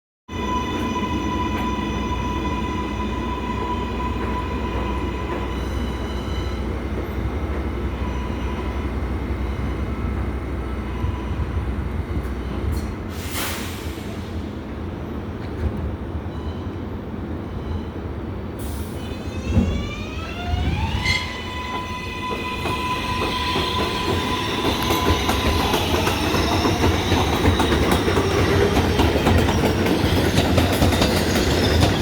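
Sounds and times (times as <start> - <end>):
subway train rumbling: 0.3 - 32.0.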